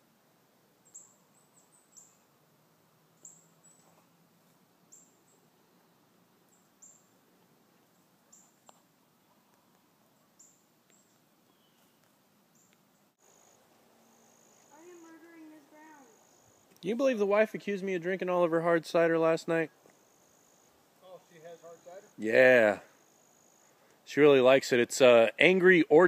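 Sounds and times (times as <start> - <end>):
low hiss: 0.0 - 26.0.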